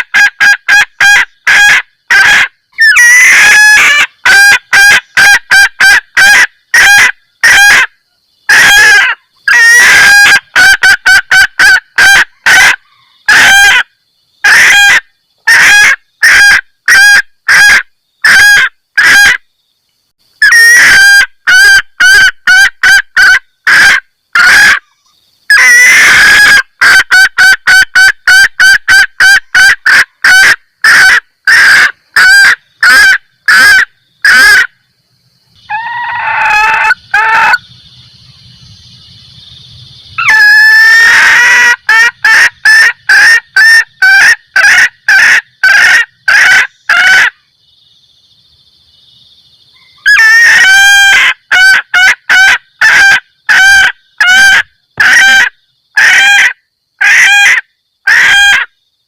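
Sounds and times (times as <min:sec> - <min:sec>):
junglefowl hen calling: 0:00.0 - 0:19.5, 0:20.4 - 0:34.8, 0:35.6 - 0:47.5, 0:49.6 - 0:58.8.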